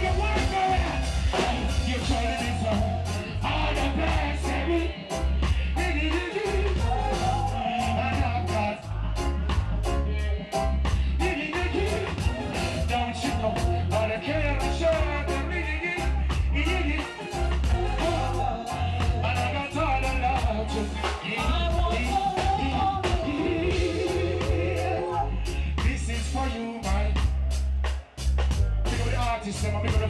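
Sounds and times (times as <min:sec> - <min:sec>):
person singing: 0:00.0 - 0:27.6
deep bass line: 0:00.0 - 0:30.0
drum kit cymbal beat: 0:00.0 - 0:30.0.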